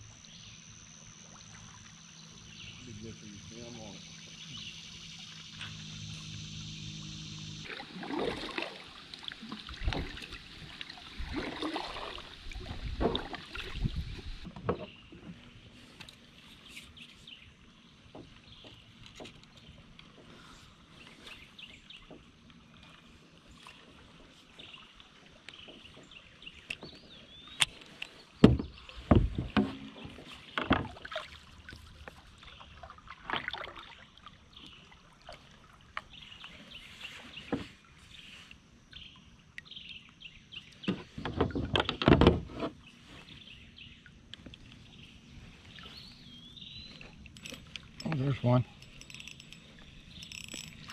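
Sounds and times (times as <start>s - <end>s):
paddle splashing water: 7.6s - 49.0s.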